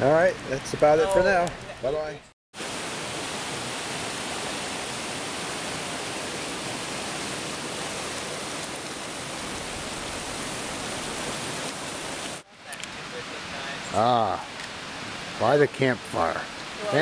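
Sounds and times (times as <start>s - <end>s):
stream rushing over rocks: 2.6s - 17.0s.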